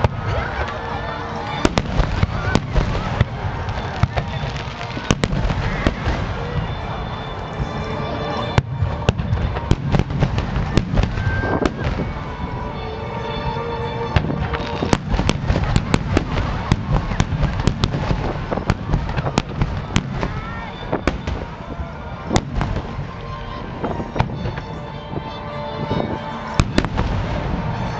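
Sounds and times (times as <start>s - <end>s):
fireworks bangs and crackles: 0.0s - 13.3s, 14.0s - 27.9s
background music: 0.0s - 27.9s.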